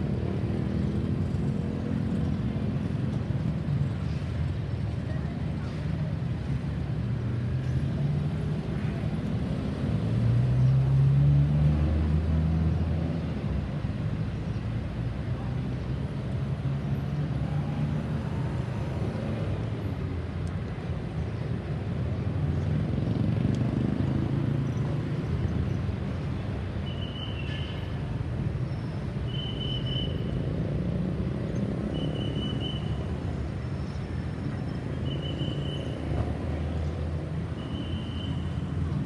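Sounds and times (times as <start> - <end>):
vehicles passing with engine rumble: 0.0 - 39.0.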